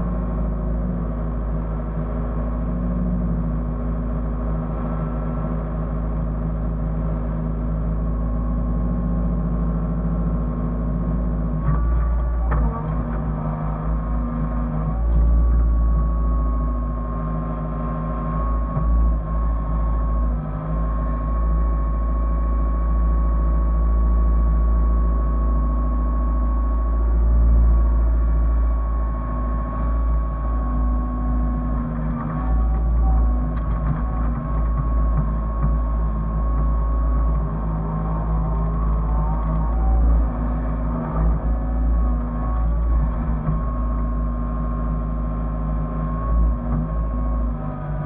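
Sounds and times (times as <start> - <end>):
excavator diesel engine rumbling: 0.0 - 48.0.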